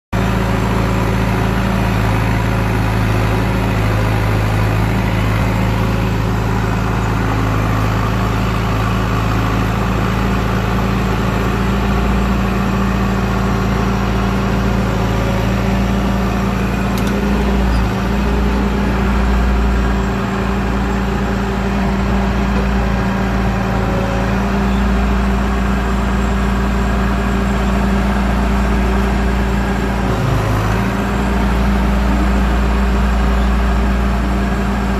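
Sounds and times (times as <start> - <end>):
diesel engine running: 0.2 - 34.9.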